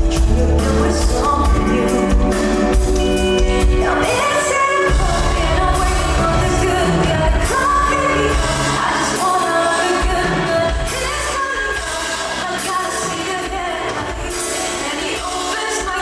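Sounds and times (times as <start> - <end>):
live pop band: 0.0 - 16.0
woman singing lead: 0.0 - 16.0.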